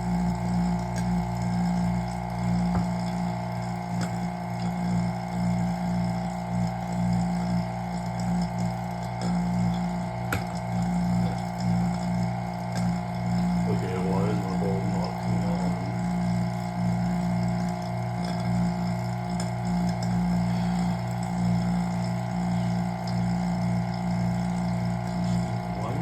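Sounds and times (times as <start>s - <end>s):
vacuum pump humming: 0.0s - 26.0s.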